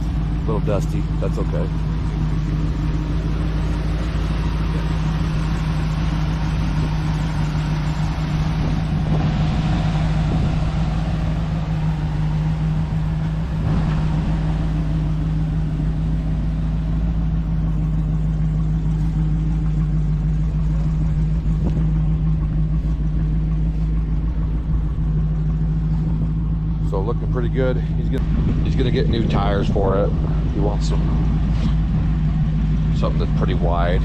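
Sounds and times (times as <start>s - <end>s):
pickup engine idling: 0.0s - 34.0s.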